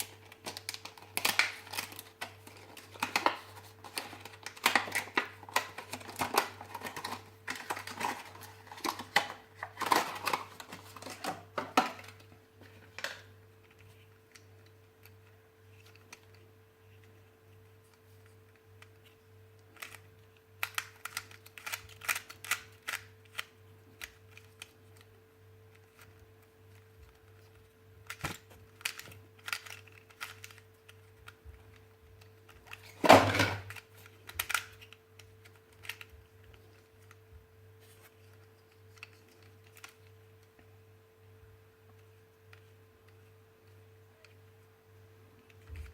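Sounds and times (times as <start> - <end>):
low electrical hum: 0.0 - 45.9.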